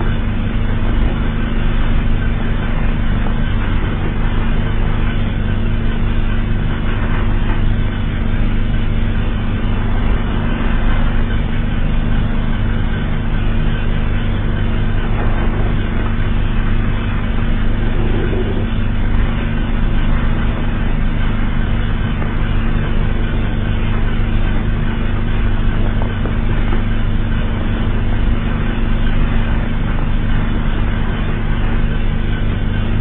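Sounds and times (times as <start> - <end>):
low alarm drone: 0.0 - 33.0
rumbling hiss: 0.0 - 33.0.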